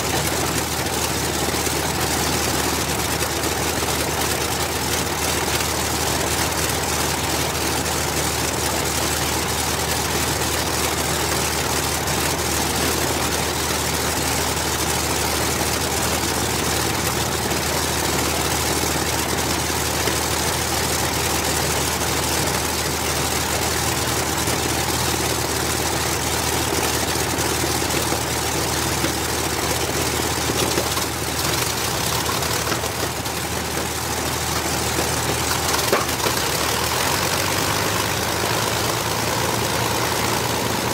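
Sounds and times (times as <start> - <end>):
aero engine idling: 0.0 - 40.9.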